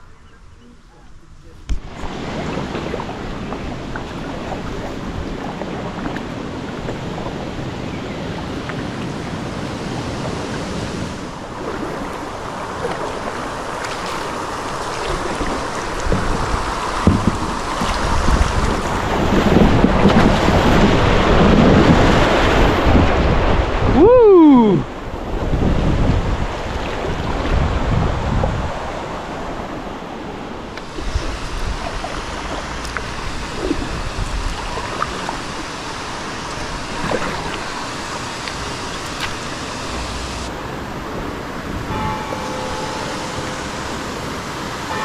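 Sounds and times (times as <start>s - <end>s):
kayak paddling water: 0.0s - 45.0s
wind on microphone: 0.0s - 45.0s.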